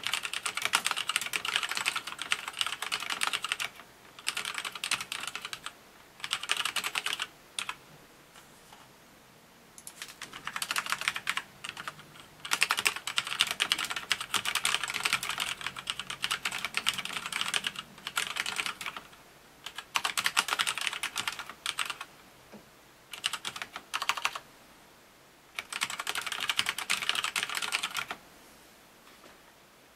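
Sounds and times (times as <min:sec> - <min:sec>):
mechanical keyboard typing: 0:00.0 - 0:07.8, 0:09.8 - 0:22.1, 0:23.1 - 0:24.4, 0:25.6 - 0:28.2.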